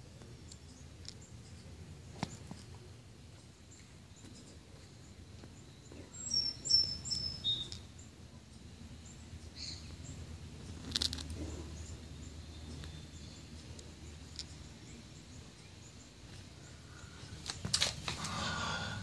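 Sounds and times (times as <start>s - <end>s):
low background noise: 0.0s - 19.0s
bird chirping: 3.3s - 19.0s.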